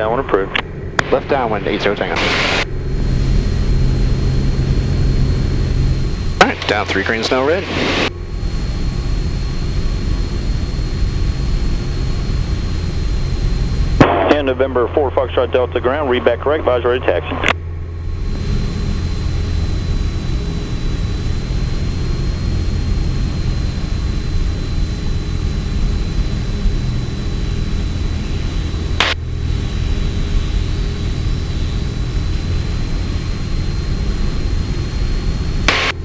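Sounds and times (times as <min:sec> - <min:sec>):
propeller plane engine droning: 0:00.0 - 0:36.0
thin high whine: 0:00.0 - 0:36.0.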